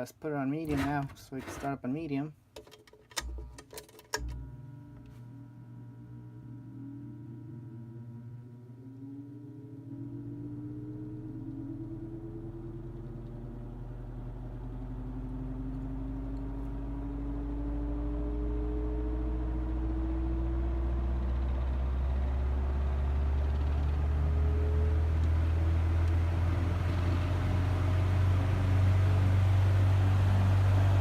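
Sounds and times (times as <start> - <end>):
fan blade whirring: 0.0 - 2.1, 4.2 - 31.0
table fan motor humming: 4.3 - 31.0.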